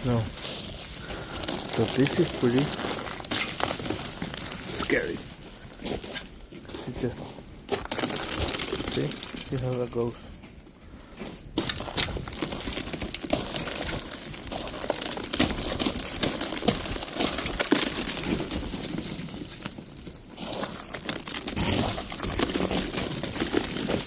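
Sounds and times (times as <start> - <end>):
ice crust crunching underfoot: 0.0 - 24.0.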